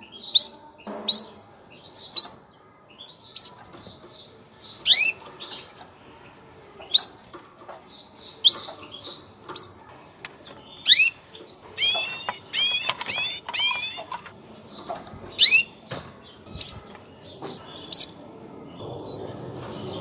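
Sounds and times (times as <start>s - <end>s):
canary chirping: 0.0s - 20.0s.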